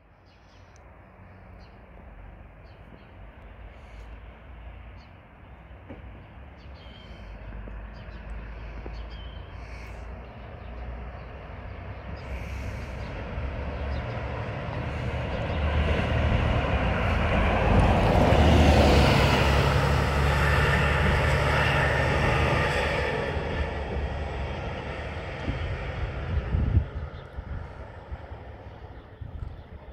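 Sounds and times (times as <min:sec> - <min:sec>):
bus driving past: 0:00.0 - 0:29.9.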